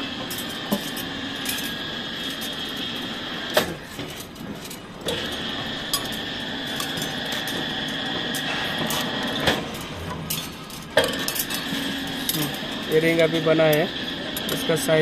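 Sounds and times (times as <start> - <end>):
bending machine motor whine: 0.0 - 15.0.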